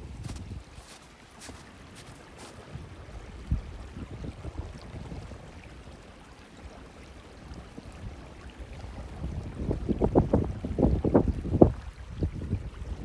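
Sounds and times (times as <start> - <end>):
gusty wind through trees: 0.0 - 13.0.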